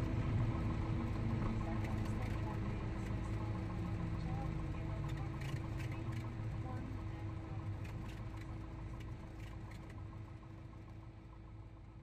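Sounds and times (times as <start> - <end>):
aircraft engine idling in cabin: 0.0 - 12.0.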